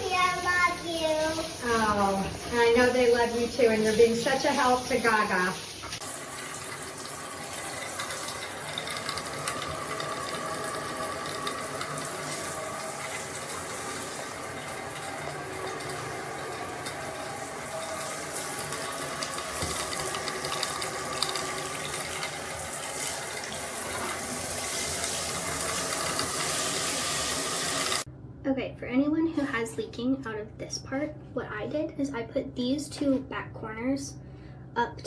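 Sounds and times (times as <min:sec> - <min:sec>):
water rushing through shower hose: 0:00.0 - 0:28.1.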